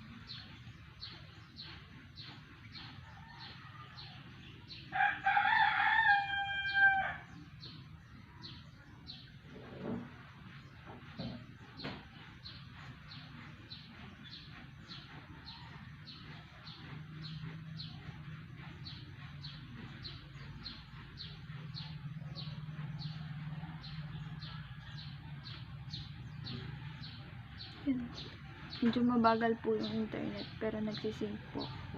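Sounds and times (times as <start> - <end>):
bird chirping: 0.0 - 5.4, 6.7 - 31.9.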